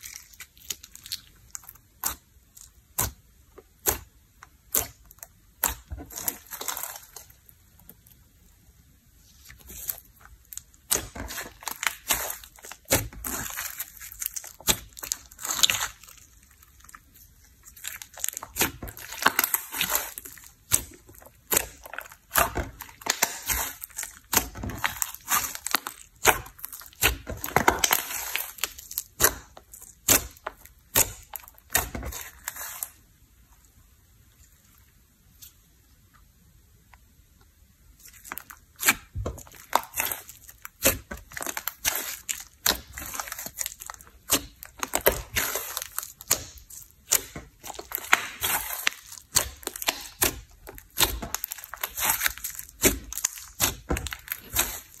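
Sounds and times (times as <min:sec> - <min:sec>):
hands squishing slime: 0:00.0 - 0:08.4, 0:09.2 - 0:33.0, 0:37.9 - 0:55.0.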